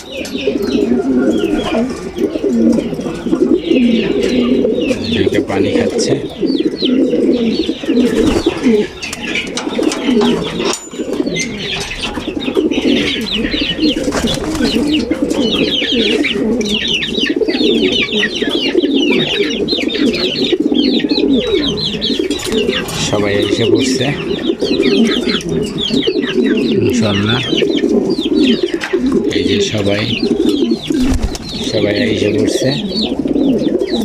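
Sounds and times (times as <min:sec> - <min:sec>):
pigeons cooing: 0:00.0 - 0:34.0.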